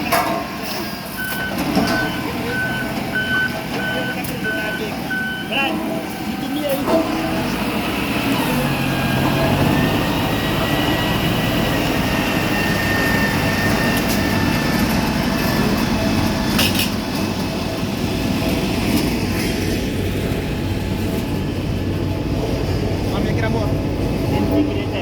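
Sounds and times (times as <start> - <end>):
road roller diesel engine running: 0.0 - 25.0.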